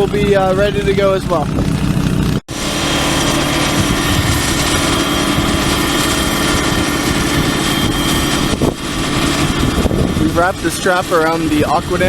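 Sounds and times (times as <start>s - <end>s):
engine running steadily: 0.0s - 12.0s
high whine: 0.0s - 12.0s.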